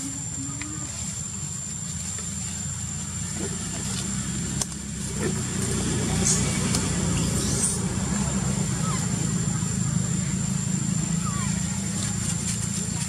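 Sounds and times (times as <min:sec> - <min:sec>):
motor engine idling: 0:00.0 - 0:13.0.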